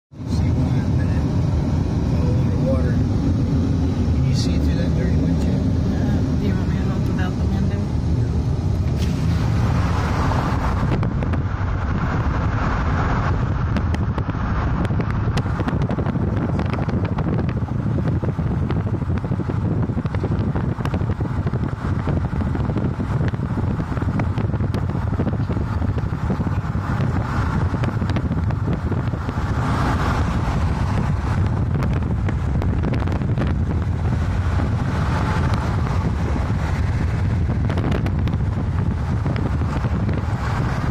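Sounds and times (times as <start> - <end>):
car road noise rumble: 0.1 - 40.9
wind rushing at microphone: 0.1 - 40.9.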